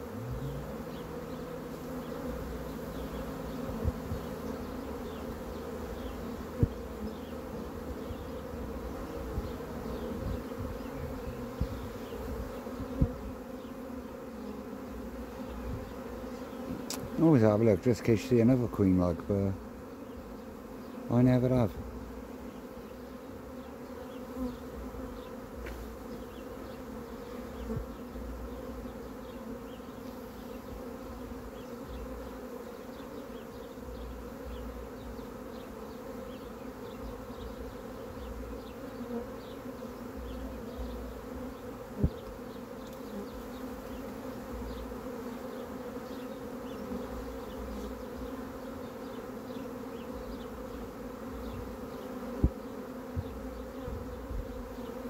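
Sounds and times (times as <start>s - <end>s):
bee swarm buzzing: 0.0s - 55.0s.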